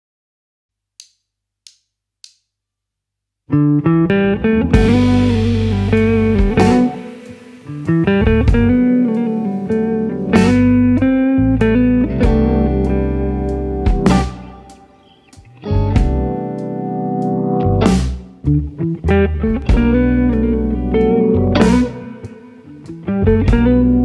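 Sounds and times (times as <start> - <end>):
funk band with electric guitar: 3.6 - 24.0.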